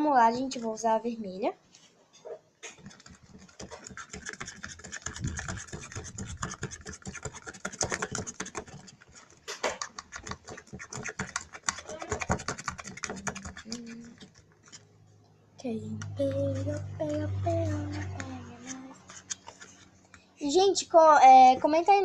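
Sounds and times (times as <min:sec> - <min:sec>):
glue stirred in plastic pot: 0:02.6 - 0:15.0, 0:16.0 - 0:21.6.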